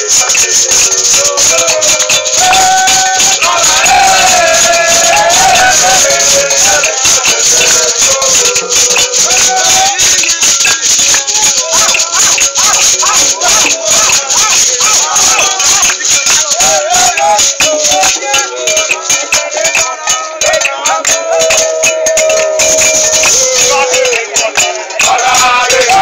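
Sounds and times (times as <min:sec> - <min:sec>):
hand-claps: 0:00.0 - 0:26.0
percussion: 0:00.0 - 0:26.0
shaken rattles: 0:00.0 - 0:26.0
voices singing: 0:00.0 - 0:26.0.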